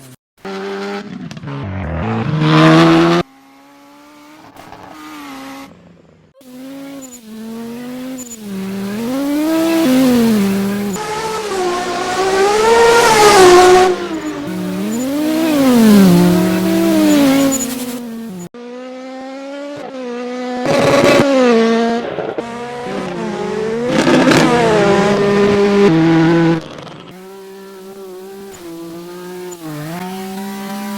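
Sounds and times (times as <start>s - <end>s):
race cars revving past: 0.4s - 5.8s, 6.4s - 30.9s.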